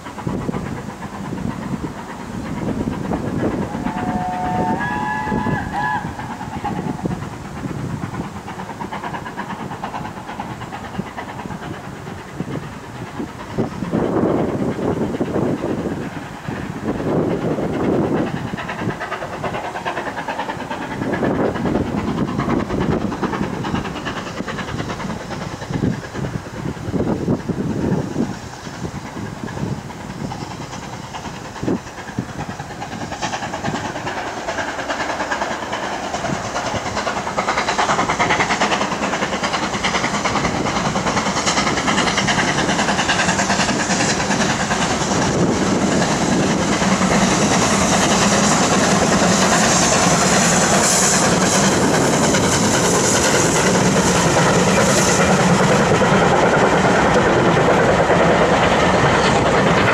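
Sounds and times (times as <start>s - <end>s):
steam locomotive working: 0.0s - 59.9s
train wheels clattering over rail joints: 0.0s - 59.9s.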